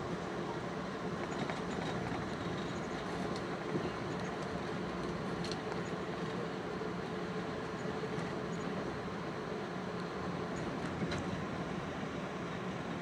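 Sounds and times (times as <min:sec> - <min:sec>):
train running noise: 0:00.0 - 0:13.0.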